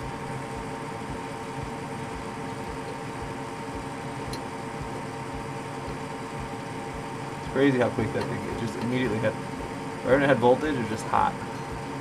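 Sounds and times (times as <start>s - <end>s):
fan motor humming: 0.0s - 12.0s.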